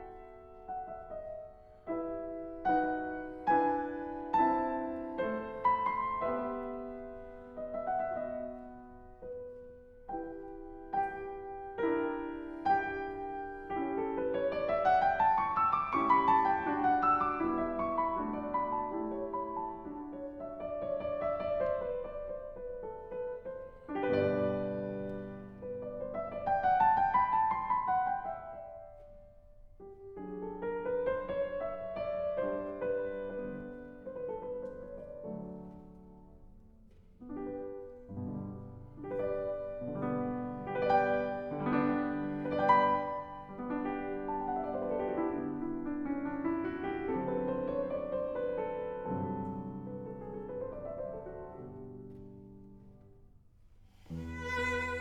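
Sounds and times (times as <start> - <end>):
piano music: 0.0 - 53.2, 54.0 - 55.0.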